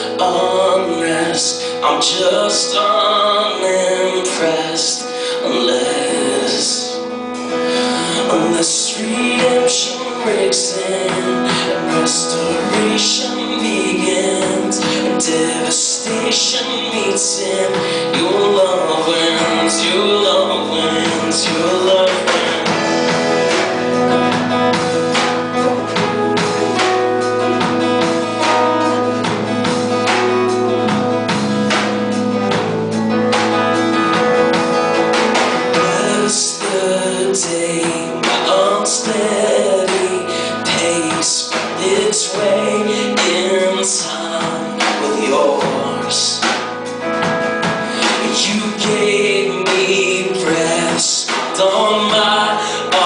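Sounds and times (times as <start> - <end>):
live band playing: 0.0 - 53.0
person singing: 0.0 - 53.0.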